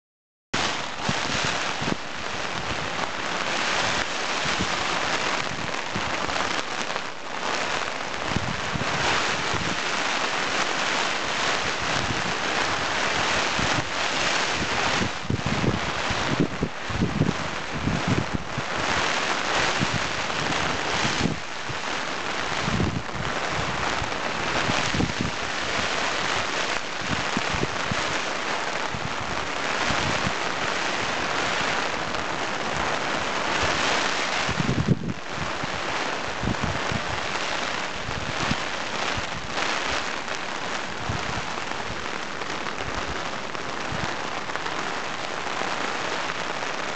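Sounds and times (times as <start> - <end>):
heavy rain on a pond: 0.6 - 46.9
wind buffeting microphone: 0.6 - 46.9.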